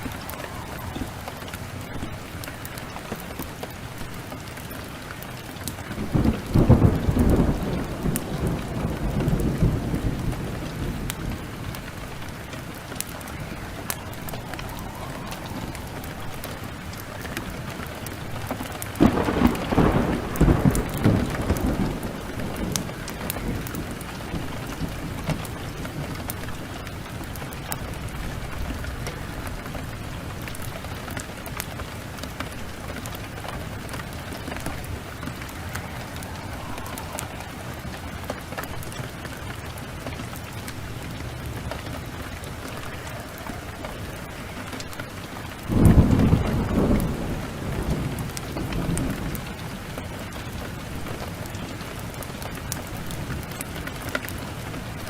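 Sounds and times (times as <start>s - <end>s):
heavy rain falling: 0.0s - 55.0s
thunder rumbling: 0.0s - 55.0s.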